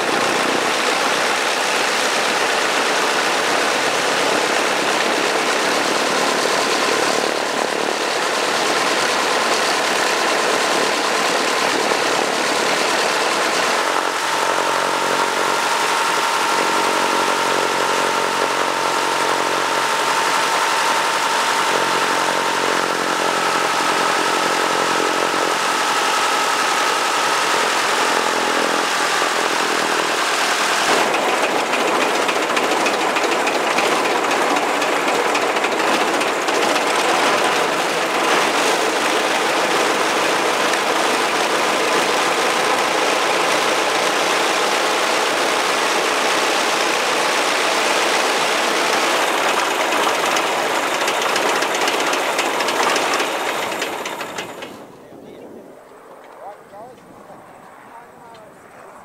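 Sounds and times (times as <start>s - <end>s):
biplane engine running: 0.0s - 59.0s.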